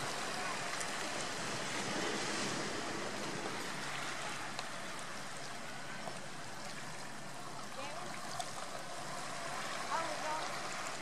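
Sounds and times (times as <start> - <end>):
sea surf washing: 0.0 - 11.0.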